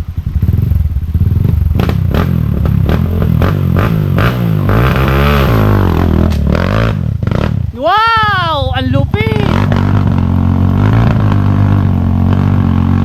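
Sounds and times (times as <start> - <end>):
dirt bike engine revving: 0.4 - 13.0.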